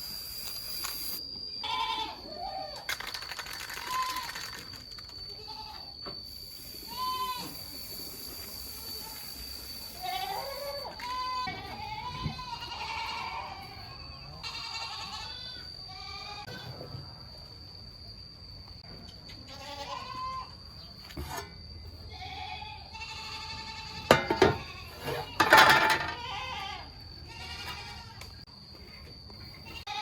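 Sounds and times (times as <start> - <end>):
high-pitched whine: 0.0 - 29.7.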